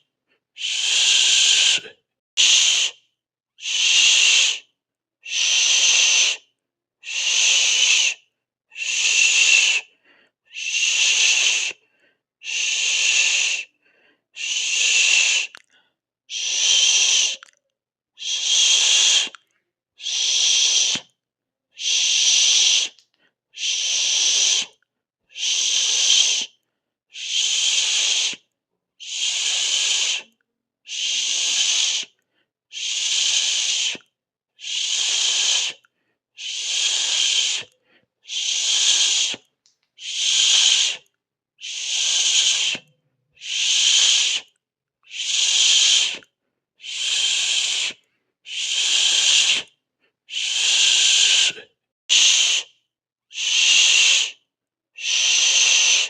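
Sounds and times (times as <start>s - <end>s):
person hissing through teeth: 0.6s - 3.0s, 3.6s - 6.4s, 7.0s - 8.2s, 8.8s - 9.9s, 10.5s - 11.8s, 12.4s - 13.7s, 14.4s - 15.7s, 16.3s - 17.5s, 18.2s - 21.1s, 21.8s - 23.0s, 23.6s - 28.4s, 29.0s - 49.7s, 50.3s - 54.4s, 55.0s - 56.0s.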